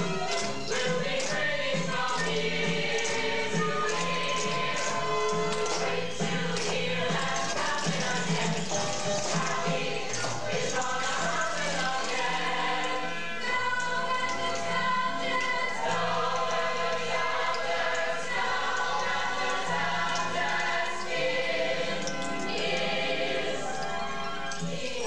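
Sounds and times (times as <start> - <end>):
music with singing voices: 0.0 - 25.0.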